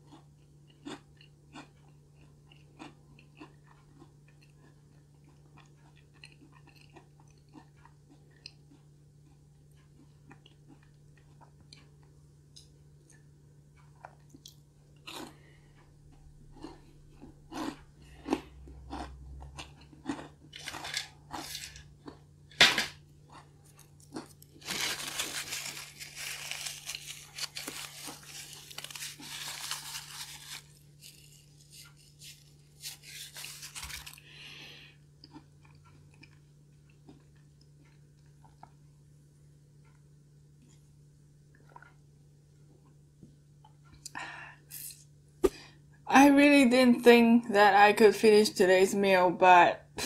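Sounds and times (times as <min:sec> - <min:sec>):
chewing crunchy cookie: 0:00.0 - 0:39.2, 0:39.8 - 0:45.7.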